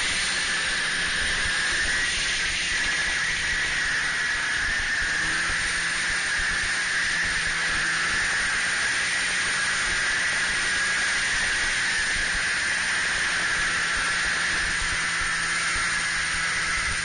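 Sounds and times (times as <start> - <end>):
snowmobile running: 0.0 - 17.0.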